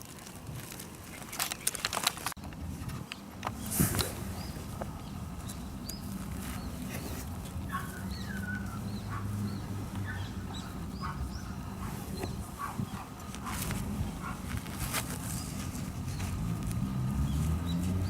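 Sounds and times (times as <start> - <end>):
low steady hum: 0.0 - 18.0
small birds chirping: 3.1 - 18.0.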